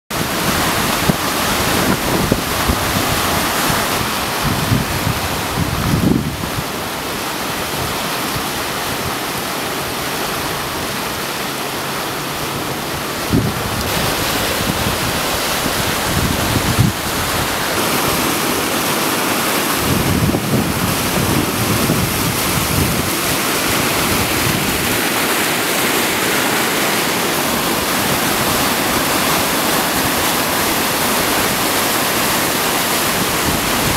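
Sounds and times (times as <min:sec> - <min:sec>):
wind buffeting microphone: 0:00.1 - 0:09.4, 0:12.5 - 0:33.9
floodwater rushing: 0:00.1 - 0:33.9.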